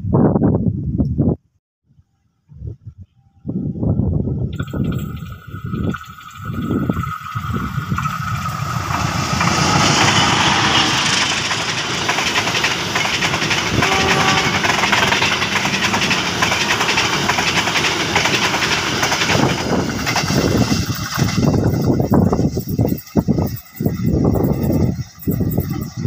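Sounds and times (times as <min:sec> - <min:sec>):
diesel locomotive passing: 0:04.6 - 0:26.0
train wheels rushing on rails: 0:04.6 - 0:26.0.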